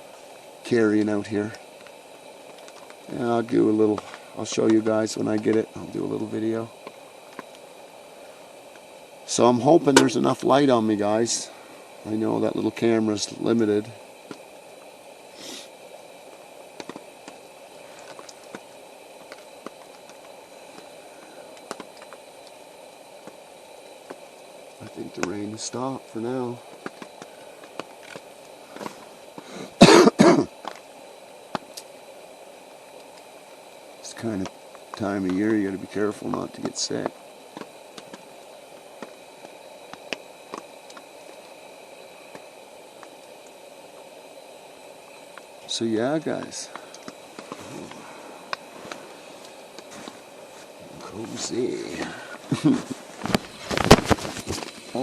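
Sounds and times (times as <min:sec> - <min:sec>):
steady hiss after rain: 0:00.0 - 0:55.0.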